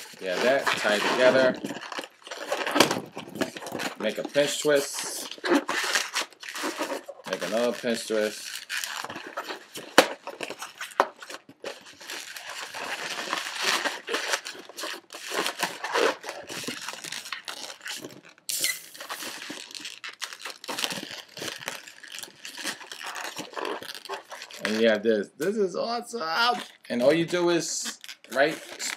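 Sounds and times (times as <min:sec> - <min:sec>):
balloons rubbing and twisting: 0:00.0 - 0:28.9.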